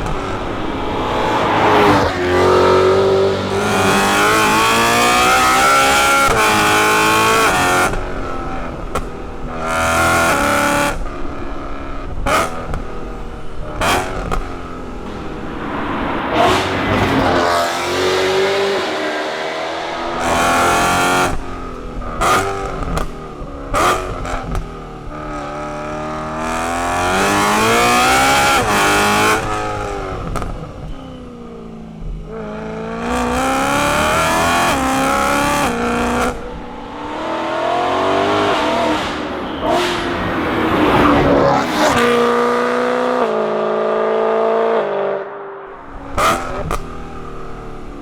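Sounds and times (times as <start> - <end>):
car exhaust revving: 0.0 - 31.4, 32.3 - 43.2.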